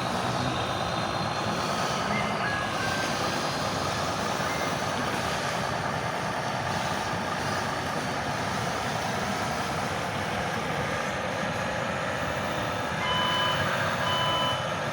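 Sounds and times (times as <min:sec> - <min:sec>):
simulated diesel truck engine: 0:00.0 - 0:14.9.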